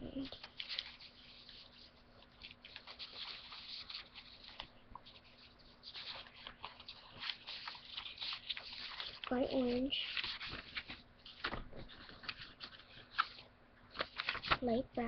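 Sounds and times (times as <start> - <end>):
paper sheets rustling: 0.0 - 15.0.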